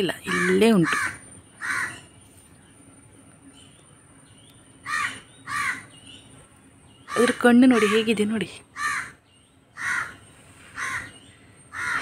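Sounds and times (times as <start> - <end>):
bird calling: 0.0 - 2.8, 3.4 - 12.0.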